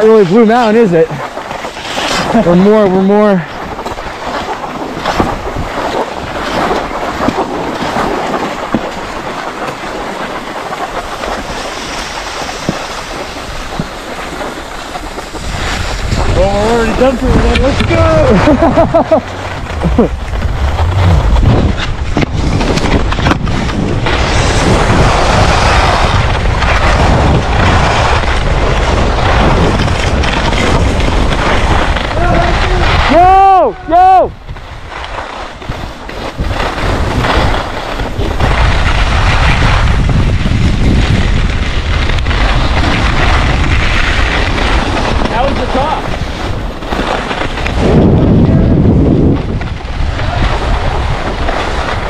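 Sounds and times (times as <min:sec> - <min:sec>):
skis scraping over snow: 0:00.0 - 0:52.0
wind buffeting microphone: 0:00.0 - 0:52.0.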